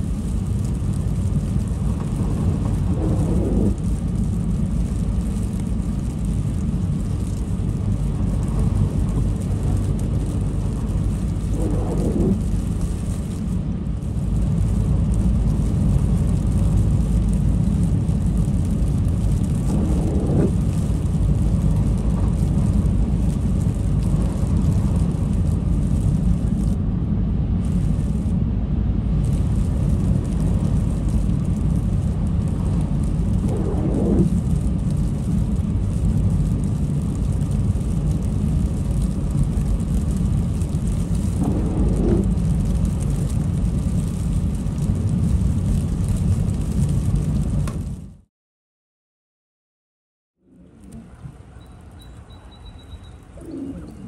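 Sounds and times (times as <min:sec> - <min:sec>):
windshield wiper sweeping: 0:00.0 - 0:26.8, 0:29.3 - 0:47.9
car road and engine rumble: 0:00.0 - 0:48.3, 0:50.4 - 0:54.0.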